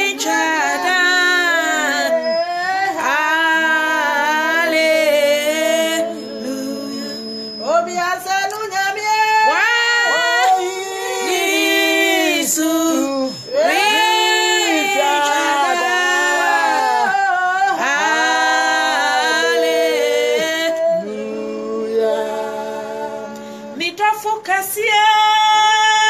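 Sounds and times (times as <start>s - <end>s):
women singing a cappella: 0.0s - 26.0s.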